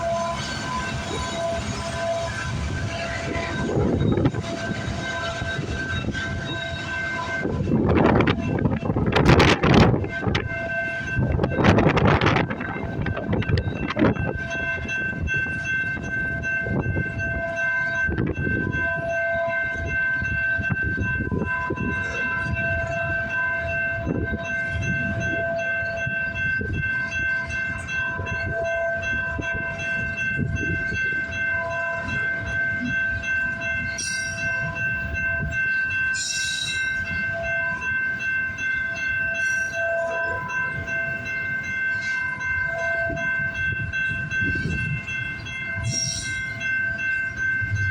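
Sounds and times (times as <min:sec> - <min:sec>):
high-pitched ringing tones: 0:00.0 - 0:47.9
train wheels rumbling on rail: 0:00.0 - 0:47.9.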